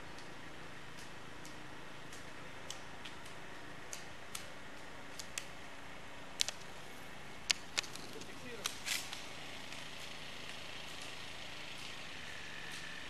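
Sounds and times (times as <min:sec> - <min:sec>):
steady hiss of skating: 0:00.0 - 0:13.0
ski poles clicking on asphalt: 0:00.1 - 0:05.6, 0:06.4 - 0:06.8, 0:07.4 - 0:13.0.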